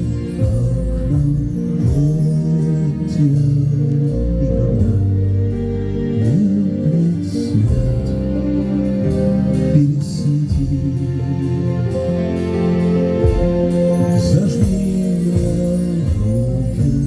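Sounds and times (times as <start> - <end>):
guitar: 0.0 - 17.0
sliding bass line: 0.0 - 17.0.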